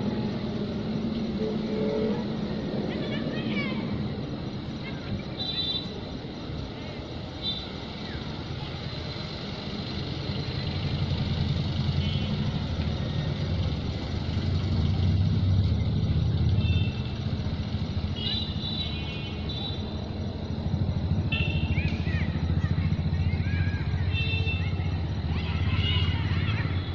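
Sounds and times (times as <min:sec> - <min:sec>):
distant diesel locomotive engine: 0:00.0 - 0:26.9.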